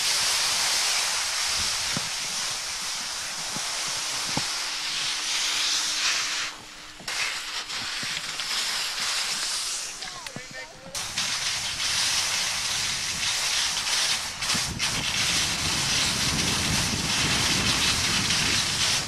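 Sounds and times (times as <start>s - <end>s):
skis sliding over snow: 0.0s - 19.0s.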